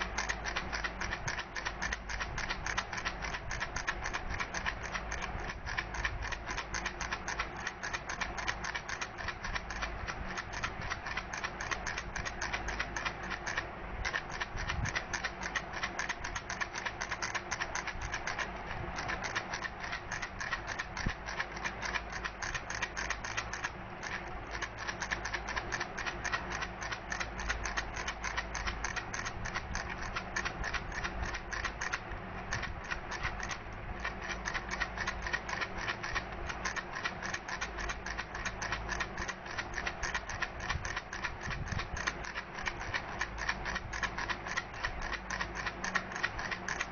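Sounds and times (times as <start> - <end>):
baby rattle clicking: 0.0 - 46.9.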